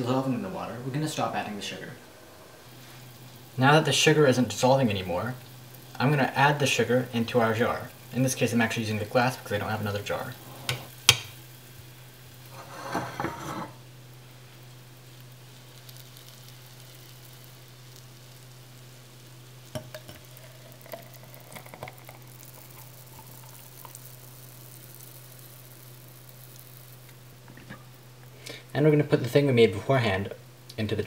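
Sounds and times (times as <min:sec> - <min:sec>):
steady low hum: 0:00.0 - 0:30.8
faint liquid hiss: 0:00.0 - 0:31.0.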